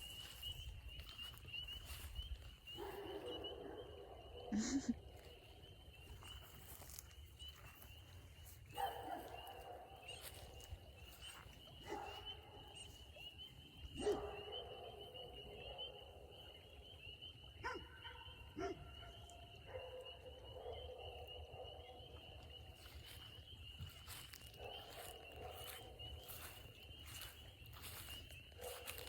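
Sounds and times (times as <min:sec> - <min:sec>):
spring peepers chorus: 0:00.0 - 0:29.0.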